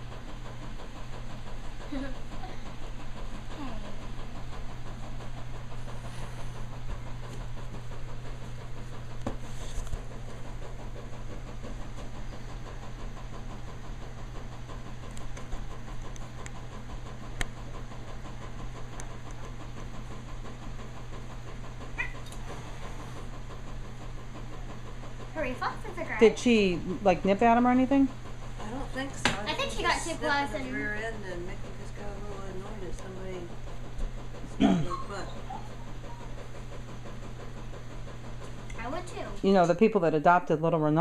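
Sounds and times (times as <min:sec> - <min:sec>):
low room hum: 0:00.0 - 0:41.0.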